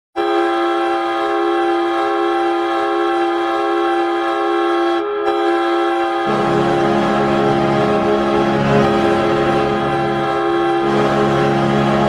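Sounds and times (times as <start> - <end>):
arena goal horn blast: 0.2 - 12.0.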